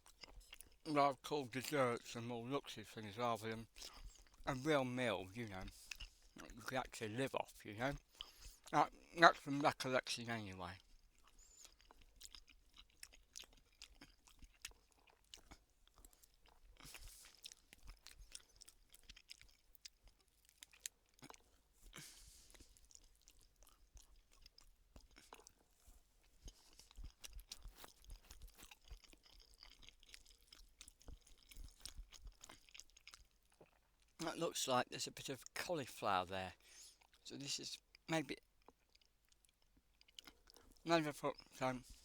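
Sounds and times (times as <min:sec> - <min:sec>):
person chewing food: 0:00.0 - 0:02.2, 0:03.4 - 0:09.7, 0:10.7 - 0:34.2, 0:36.6 - 0:37.2, 0:37.8 - 0:42.0.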